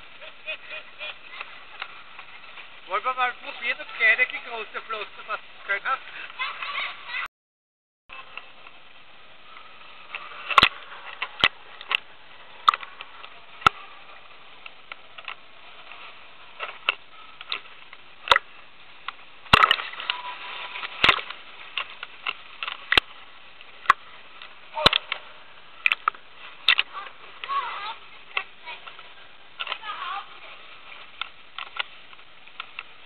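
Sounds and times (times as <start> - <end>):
steady hiss: 0.0 - 7.2, 8.2 - 33.0
pool water splashing: 0.0 - 7.3, 8.1 - 33.0.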